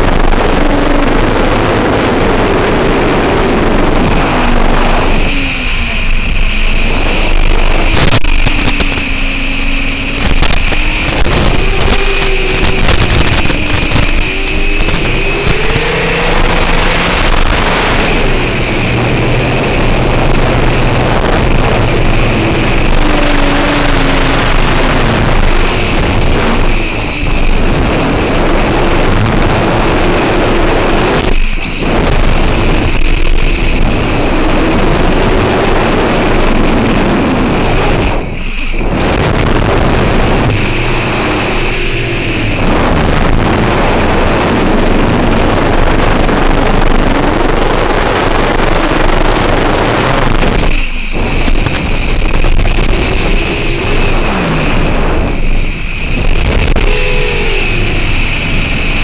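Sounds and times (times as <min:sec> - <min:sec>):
drone motors whining: 0:00.0 - 0:59.0
rushing air: 0:00.0 - 0:59.0.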